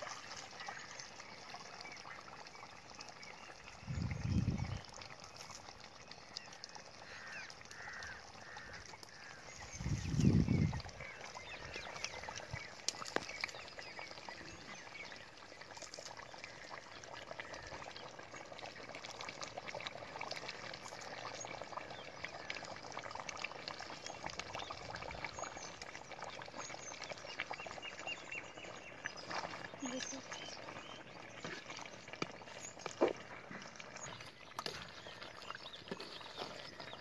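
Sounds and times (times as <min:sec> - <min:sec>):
gravy bubbling in a pan: 0:00.0 - 0:37.0.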